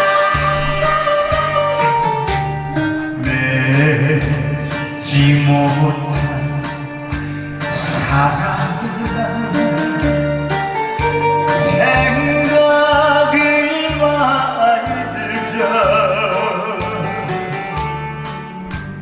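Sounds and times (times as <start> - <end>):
slow instrumental backing music: 0.0 - 19.0.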